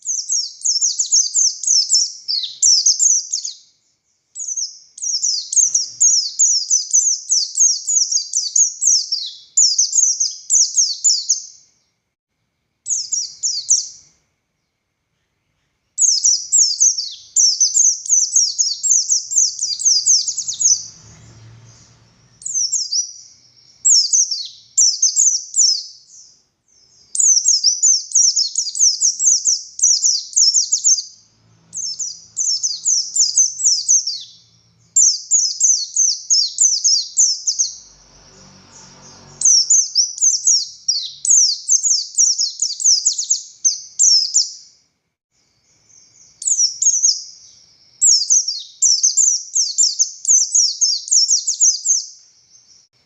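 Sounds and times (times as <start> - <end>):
bird twittering: 0.0 - 3.7, 4.4 - 11.6, 12.9 - 14.1, 15.2 - 38.2, 38.8 - 44.7, 45.9 - 52.8.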